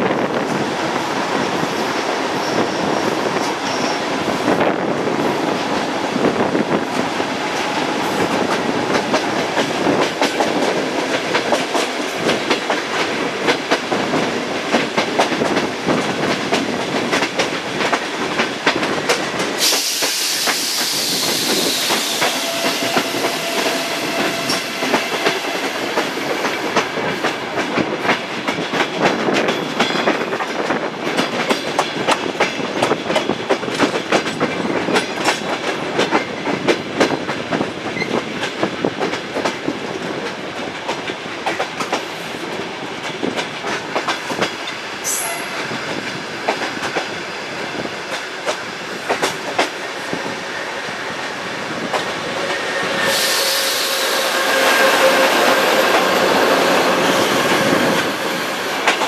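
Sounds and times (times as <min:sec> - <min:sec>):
diesel locomotive passing: 0:00.0 - 0:59.0
train running noise: 0:00.0 - 0:59.0
train wheels clicking over rail joints: 0:00.3 - 0:50.4.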